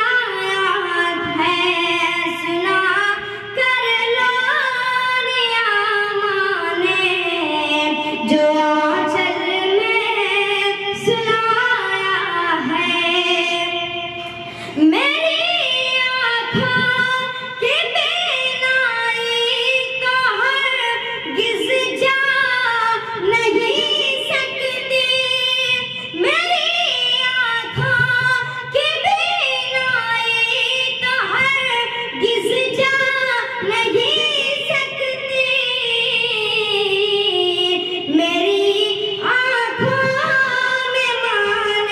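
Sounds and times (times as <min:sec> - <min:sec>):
boy singing: 0:00.0 - 0:41.9.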